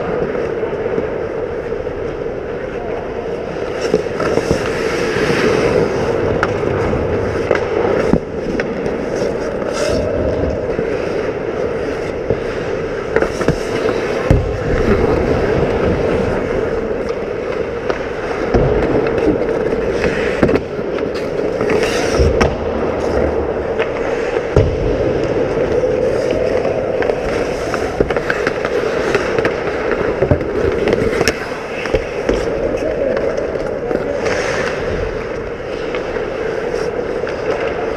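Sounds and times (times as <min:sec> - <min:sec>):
hockey sticks and puck clacking: 0:00.0 - 0:37.9
skates scraping ice: 0:00.0 - 0:37.9.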